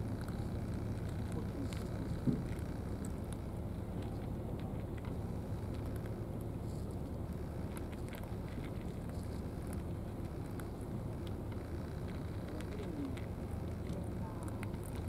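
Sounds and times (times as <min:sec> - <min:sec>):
cats crunching dry food: 0:00.0 - 0:15.0.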